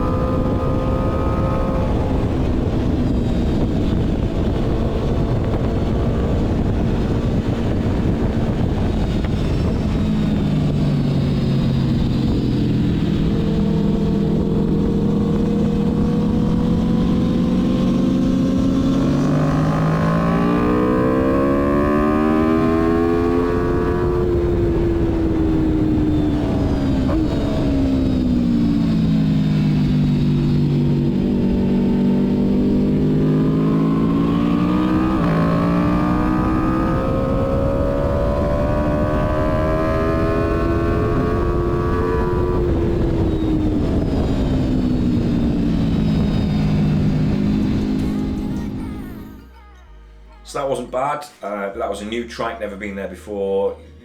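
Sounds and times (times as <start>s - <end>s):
wind noise: 0.0s - 49.3s
motorcycle engine revving: 0.0s - 49.4s.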